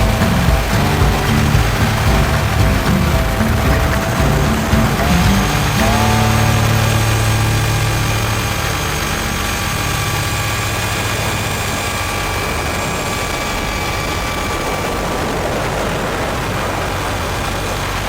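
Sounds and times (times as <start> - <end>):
helicopter engine whine: 0.0 - 18.0
helicopter rotor churn: 0.0 - 18.0.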